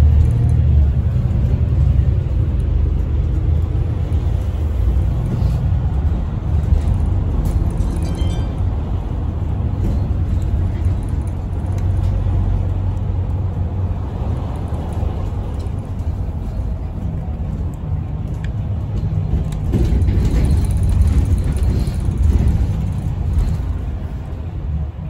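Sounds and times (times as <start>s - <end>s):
bus cabin rumble: 0.0s - 25.0s.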